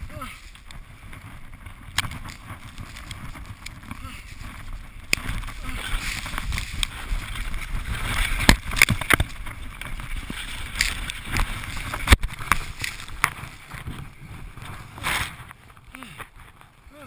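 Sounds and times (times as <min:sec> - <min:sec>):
avalanche snow rushing: 0:00.0 - 0:16.6
skis knocking and scraping: 0:00.0 - 0:16.8.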